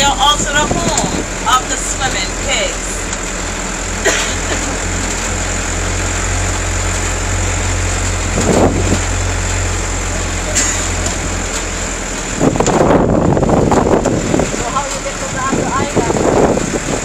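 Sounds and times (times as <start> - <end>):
tram engine humming: 0.0 - 17.0.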